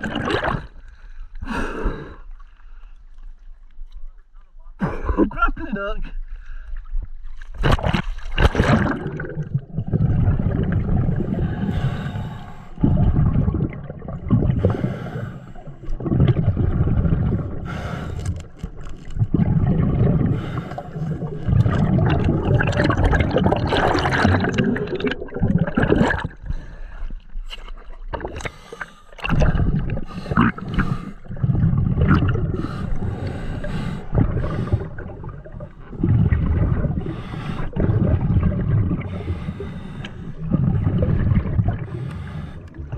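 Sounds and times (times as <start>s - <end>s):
underwater exhaled bubbles gurgling: 0.0s - 0.8s, 7.6s - 42.9s.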